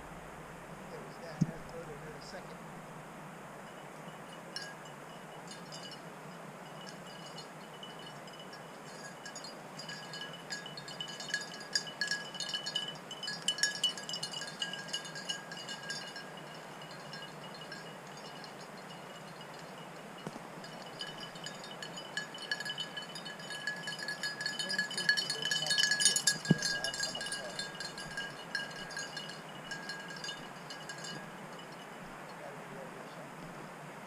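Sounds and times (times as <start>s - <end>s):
faint steady hiss: 0.0s - 34.0s
small bell jingling: 3.6s - 32.4s.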